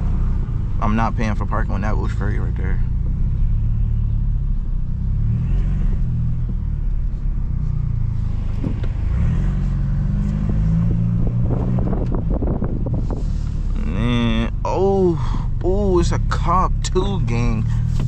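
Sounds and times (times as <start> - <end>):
car engine and exhaust droning: 0.0 - 18.0.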